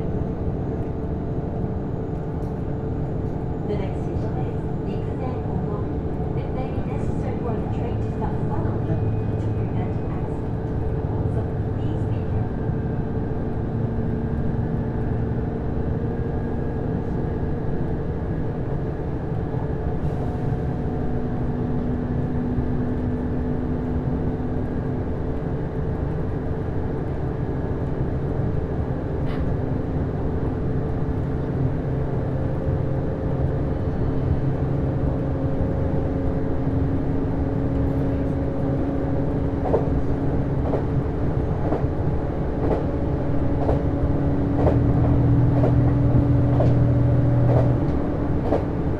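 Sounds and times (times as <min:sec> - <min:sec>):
train drive hum: 0:00.0 - 0:48.9
train wheel and rail rumble: 0:00.0 - 0:48.9.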